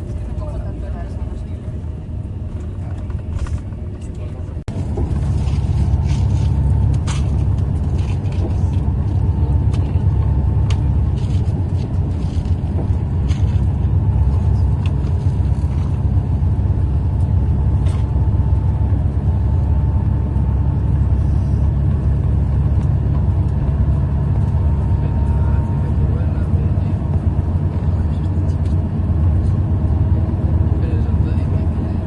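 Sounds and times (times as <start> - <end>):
road vehicle rumble: 0.0 - 32.0.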